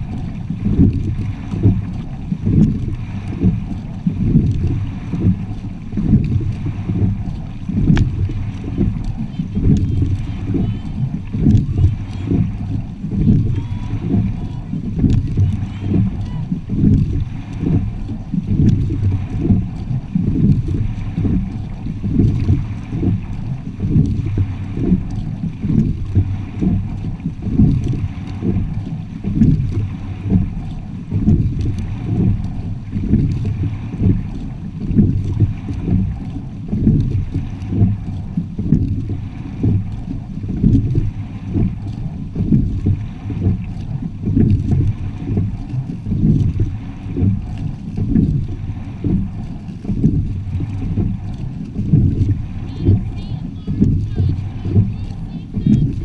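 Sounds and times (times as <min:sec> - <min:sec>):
water rushing along boat hull: 0:00.0 - 0:56.0
wind buffeting microphone: 0:00.0 - 0:56.0.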